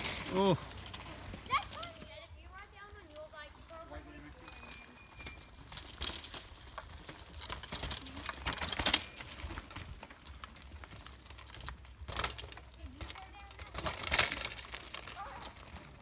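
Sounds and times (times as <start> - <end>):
bicycle tyres rolling over rocky trail: 0.0 - 16.0.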